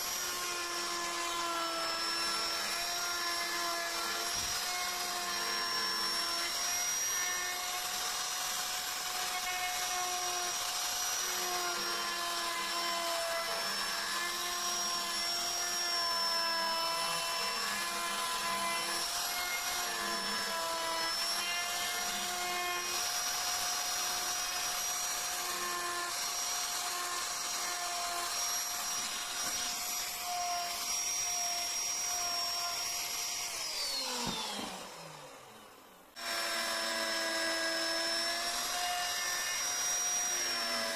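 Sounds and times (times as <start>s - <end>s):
rotary carving tool whining: 0.0s - 40.9s.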